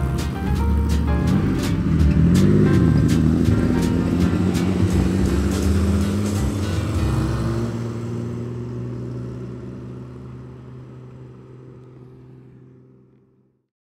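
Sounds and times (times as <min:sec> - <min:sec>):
held low chord: 0:00.0 - 0:12.6
cars driving away: 0:00.0 - 0:13.5.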